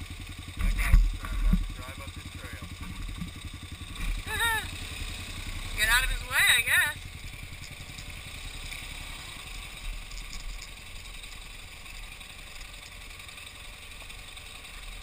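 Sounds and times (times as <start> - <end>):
motorcycle engine running: 0.0 - 15.0
light rattles: 0.5 - 4.5, 5.4 - 15.0.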